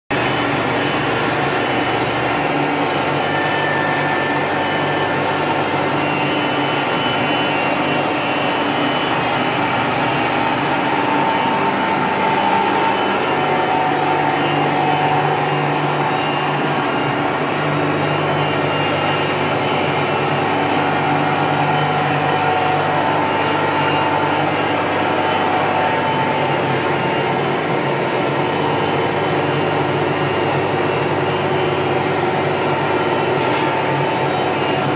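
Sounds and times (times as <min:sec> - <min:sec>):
glass edging machine humming: 0:00.2 - 0:34.9.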